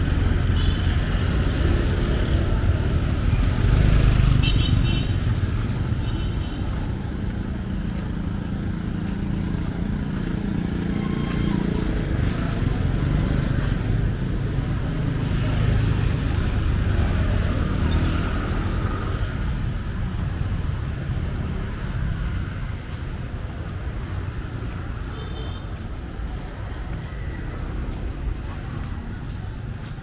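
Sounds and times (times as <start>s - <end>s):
low rumble of traffic: 0.0s - 30.0s.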